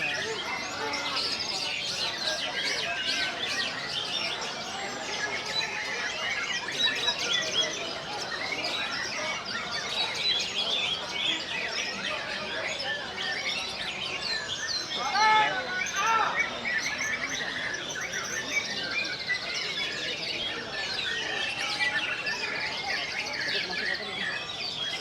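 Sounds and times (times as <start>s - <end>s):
birds singing whistles and chirps: 0.0s - 25.0s.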